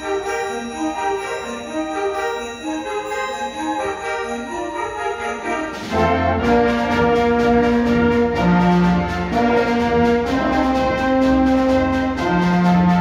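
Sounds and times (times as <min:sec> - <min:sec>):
brass: 0:00.0 - 0:13.0
concert band playing: 0:00.0 - 0:13.0
flute: 0:00.0 - 0:13.0.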